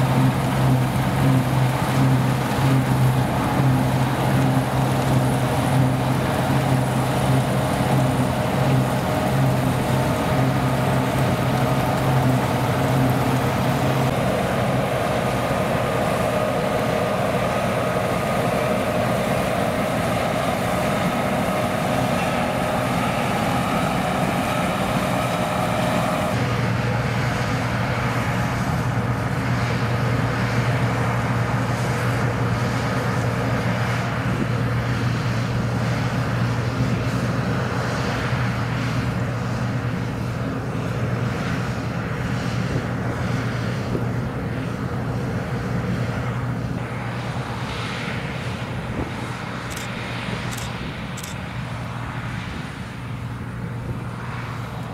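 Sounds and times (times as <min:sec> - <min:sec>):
combine harvester engine drone: 0:00.0 - 0:54.9.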